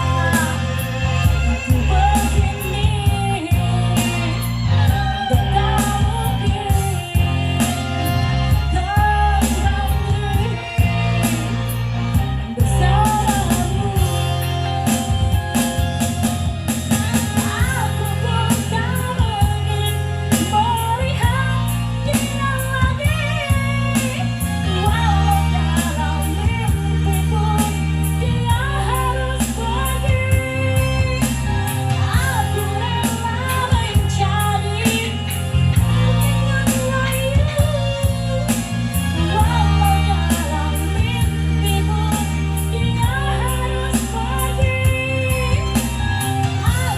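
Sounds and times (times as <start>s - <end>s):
backing music with steady beat: 0.0s - 46.9s
woman singing: 0.0s - 46.9s.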